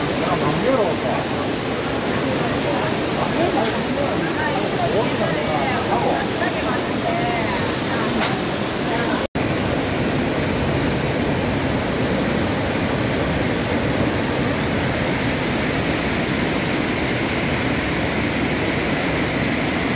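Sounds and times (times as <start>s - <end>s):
stream rushing over boulders: 0.0s - 19.9s.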